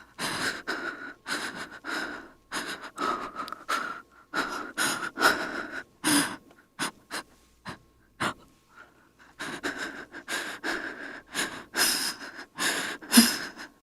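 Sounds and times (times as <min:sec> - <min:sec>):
woman breathing and gasping: 0:00.0 - 0:13.8.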